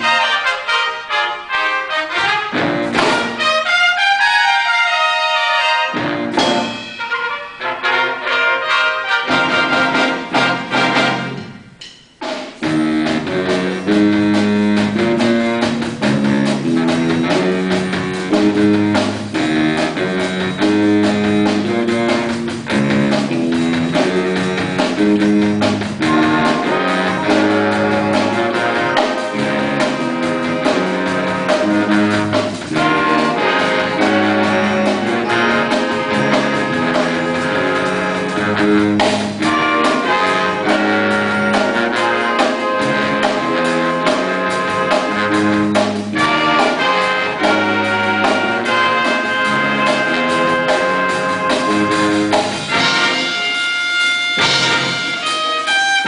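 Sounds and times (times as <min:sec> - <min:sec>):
repeating low brass riff: 0:00.0 - 0:11.8, 0:12.6 - 0:56.0
big band playing jazz: 0:00.0 - 0:56.0.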